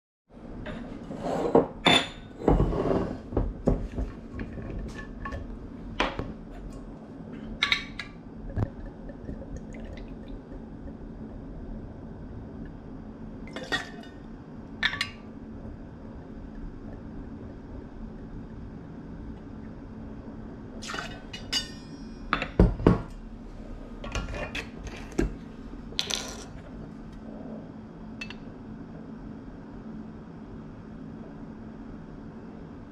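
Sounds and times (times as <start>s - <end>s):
steady low hum: 0.3s - 32.9s.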